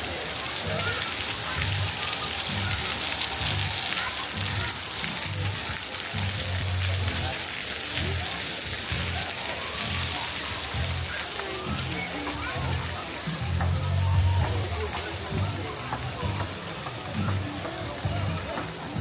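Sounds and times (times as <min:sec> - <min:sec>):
faint voices: 0:00.0 - 0:19.0
water falling and splashing: 0:00.0 - 0:19.0.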